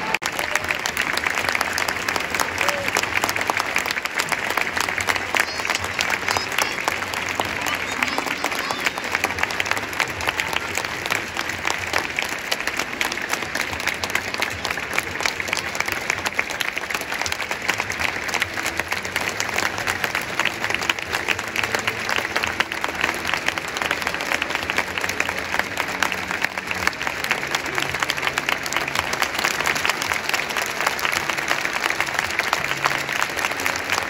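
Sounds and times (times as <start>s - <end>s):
crowd applauding: 0.0s - 34.0s.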